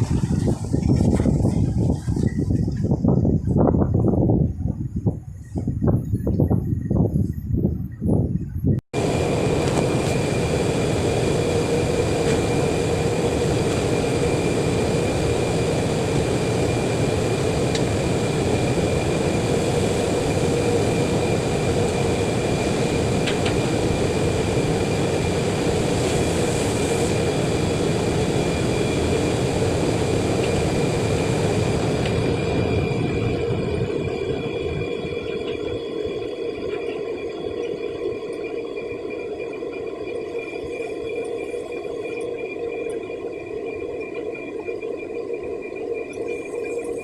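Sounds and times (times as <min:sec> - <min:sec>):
machine drone with high whine: 0:00.0 - 0:47.0.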